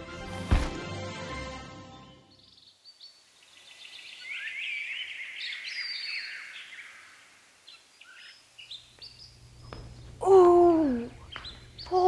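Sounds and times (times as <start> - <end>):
songbirds chirping: 2.2 - 12.0.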